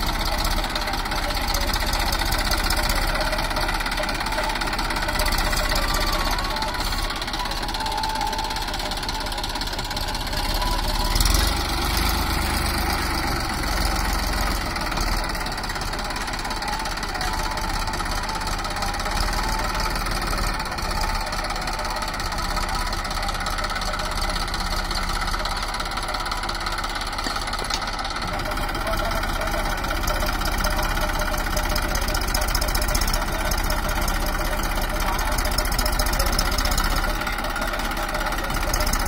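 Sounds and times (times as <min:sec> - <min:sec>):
diesel tractor engine running: 0:00.0 - 0:39.0.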